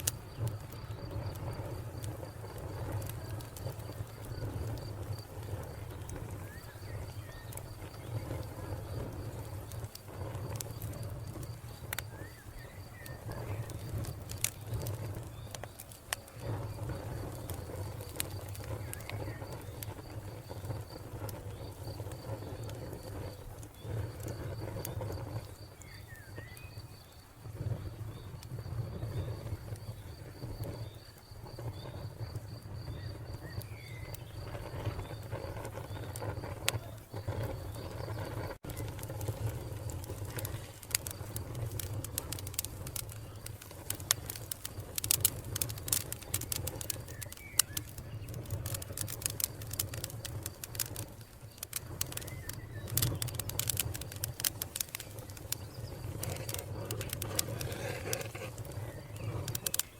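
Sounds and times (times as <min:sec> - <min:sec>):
cricket chirping: 0:00.0 - 0:59.9
wood fire crackling and popping: 0:00.0 - 0:59.9.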